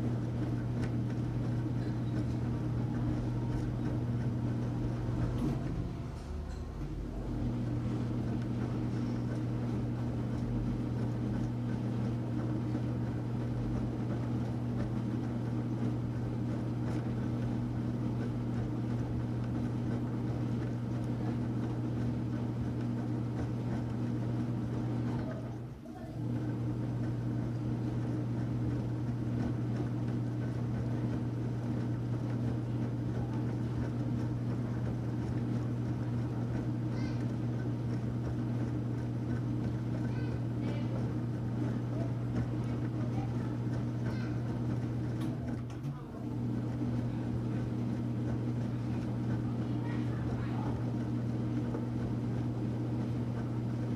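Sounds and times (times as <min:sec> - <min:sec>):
washing machine motor hum: 0:00.0 - 0:53.9.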